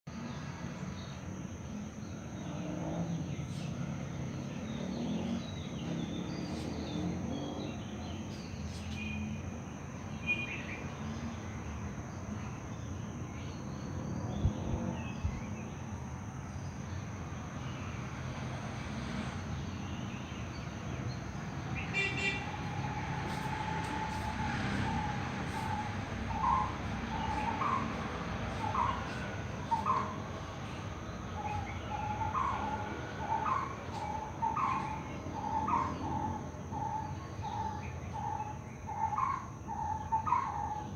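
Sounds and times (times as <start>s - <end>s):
distant traffic rumble: 0.1s - 40.9s.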